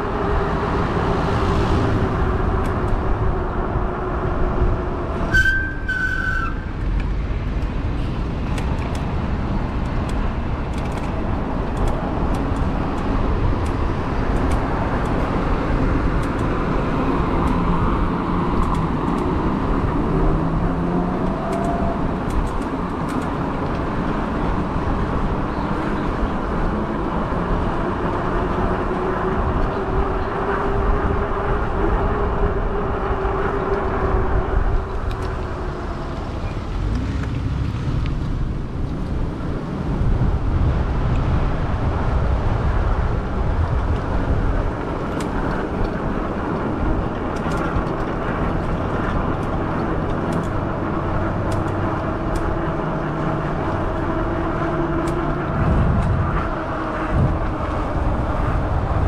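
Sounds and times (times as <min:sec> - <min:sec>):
traffic: 0:00.0 - 0:59.0
wind and road noise: 0:00.0 - 0:59.0.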